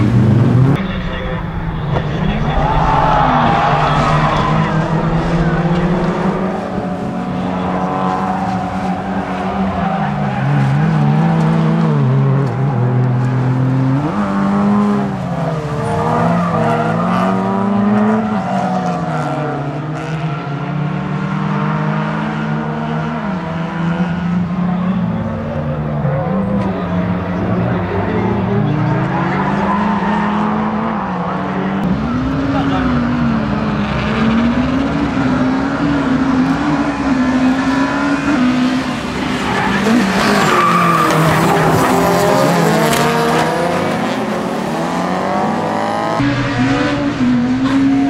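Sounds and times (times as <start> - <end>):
rally car engines revving: 0.0 - 48.0.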